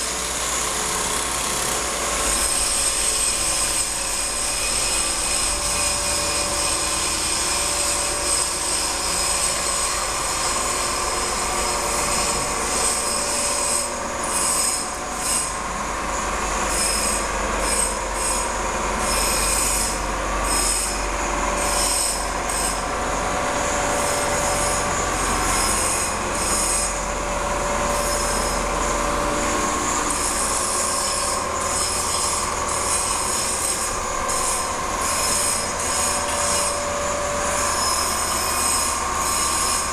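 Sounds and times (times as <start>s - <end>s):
high-pitched metallic machine whine: 0.0s - 39.9s
low machine hum: 1.3s - 39.9s.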